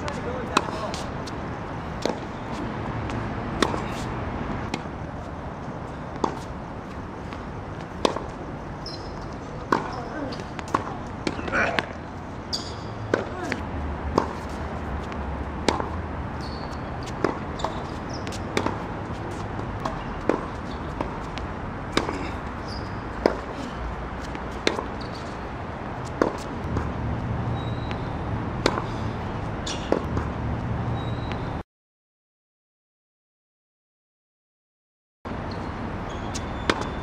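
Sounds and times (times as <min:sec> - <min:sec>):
tennis balls struck and bouncing: 0:00.0 - 0:31.5, 0:36.1 - 0:37.0
steady background noise: 0:00.0 - 0:31.6, 0:35.3 - 0:37.0.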